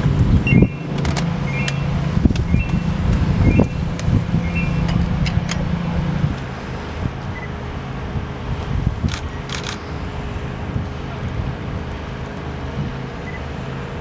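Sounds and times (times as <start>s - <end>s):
wind on microphone: 0.0s - 13.8s
vehicle engine running: 0.0s - 14.0s.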